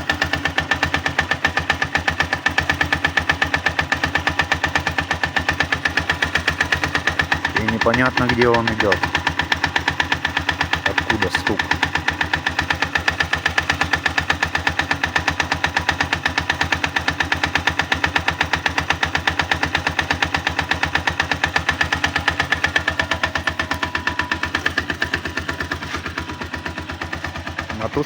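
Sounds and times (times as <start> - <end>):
engine idling with rattling knock: 0.0 - 28.0.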